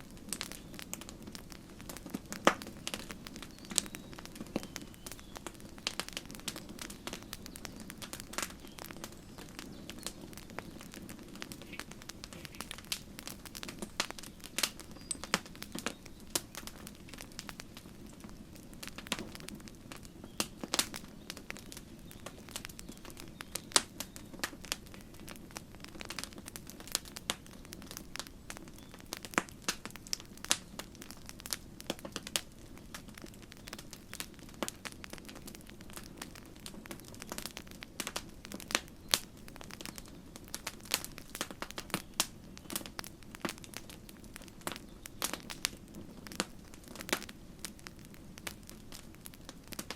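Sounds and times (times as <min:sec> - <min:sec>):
burning wood popping and snapping: 0:00.0 - 0:49.9
low rumble of flames: 0:00.0 - 0:49.9.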